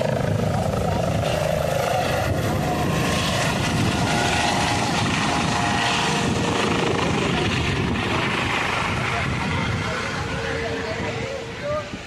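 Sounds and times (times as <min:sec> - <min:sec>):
faint turbine whine: 0:00.0 - 0:12.0
helicopter rotor and turbine noise: 0:00.0 - 0:12.0.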